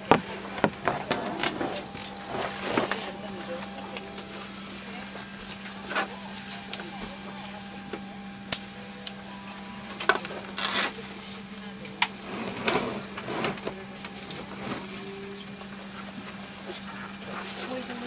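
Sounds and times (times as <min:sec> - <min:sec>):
cabin air system hum: 0:00.0 - 0:18.0.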